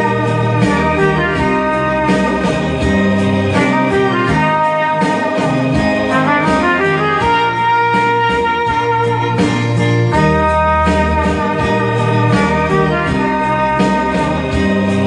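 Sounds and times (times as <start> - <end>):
musical accompaniment with bass: 0.0 - 15.0
trumpet melody: 0.0 - 15.0.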